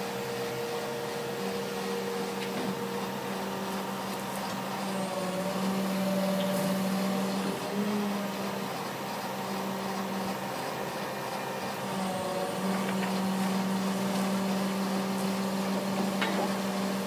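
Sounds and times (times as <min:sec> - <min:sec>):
crane engine and hydraulics hum: 0:00.0 - 0:17.0.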